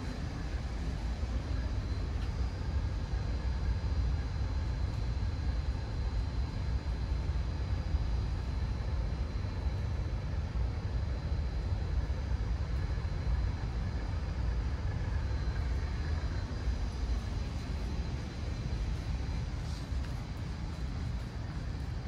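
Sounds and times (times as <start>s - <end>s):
faint high-pitched whine: 0.0s - 22.0s
low city rumble: 0.0s - 22.0s.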